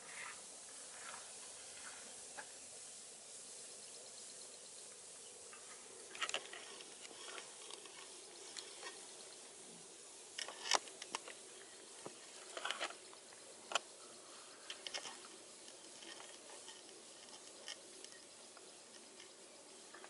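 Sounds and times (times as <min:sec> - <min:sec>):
quiet steady hiss: 0:00.0 - 0:20.0.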